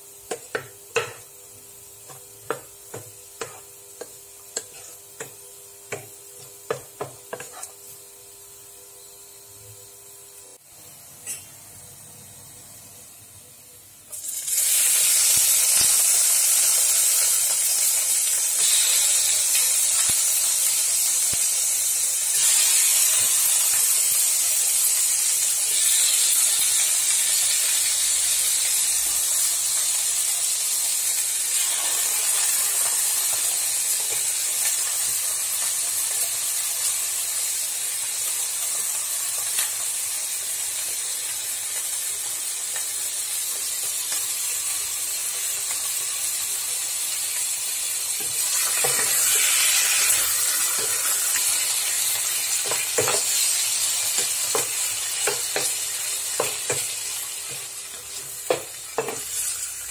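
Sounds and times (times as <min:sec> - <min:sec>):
chicken sizzling in hot oil: 0:00.0 - 0:11.5, 0:14.0 - 0:59.9.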